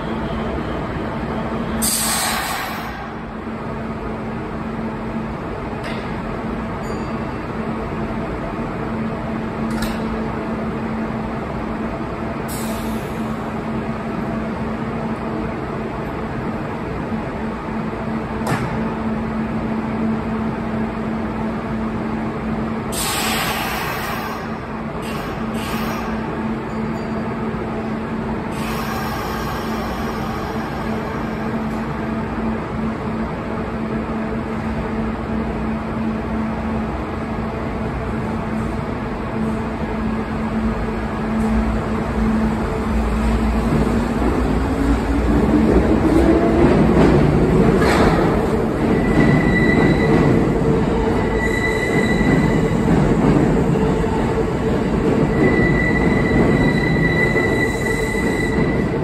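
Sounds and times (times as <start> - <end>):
train equipment humming: 0.0 - 59.0.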